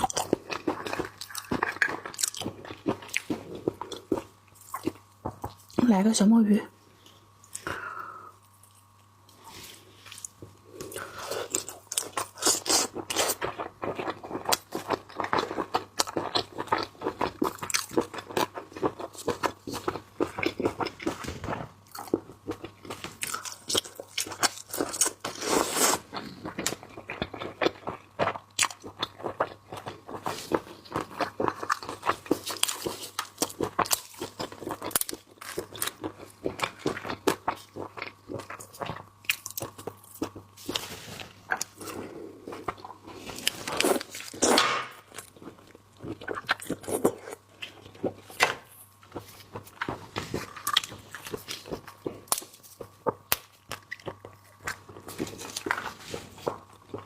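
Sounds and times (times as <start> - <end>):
wet crunching while chewing: 0.0 - 5.8, 10.0 - 57.0.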